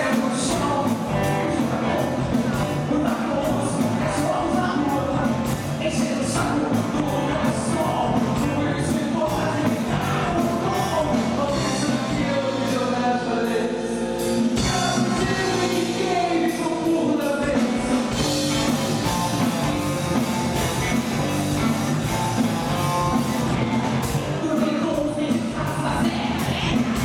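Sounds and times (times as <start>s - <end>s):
drums: 0.0s - 27.0s
electric bass: 0.0s - 27.0s
electric guitar: 0.0s - 27.0s.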